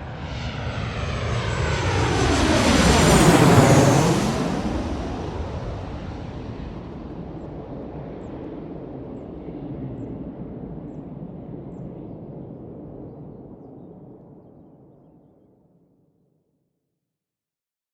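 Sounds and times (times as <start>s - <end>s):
jet airliner passing: 0.0s - 14.4s.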